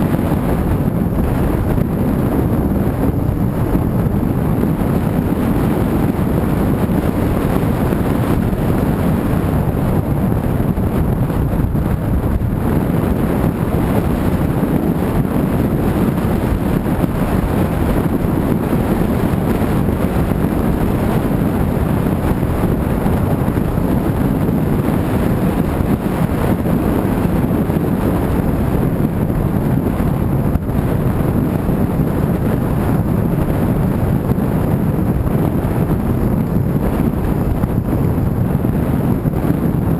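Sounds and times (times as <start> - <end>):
car road noise: 0.0 - 39.9
wind buffeting microphone: 0.0 - 39.9.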